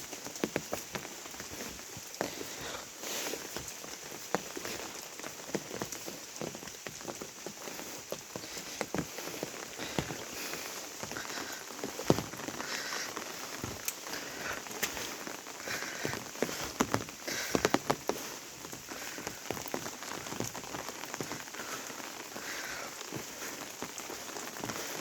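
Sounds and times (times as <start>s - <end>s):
rain hiss: 0.0s - 25.0s
raindrops tapping a surface: 0.0s - 25.0s.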